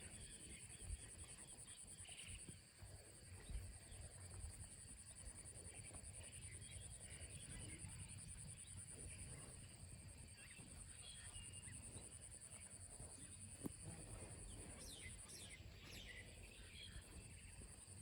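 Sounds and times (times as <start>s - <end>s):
faint bird chirps: 0.0s - 18.0s
insects chirring: 0.0s - 18.0s.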